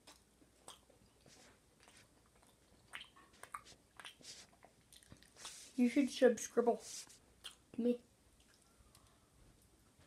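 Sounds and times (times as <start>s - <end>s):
child chewing with wet smacks: 0.0s - 6.4s, 7.0s - 10.0s.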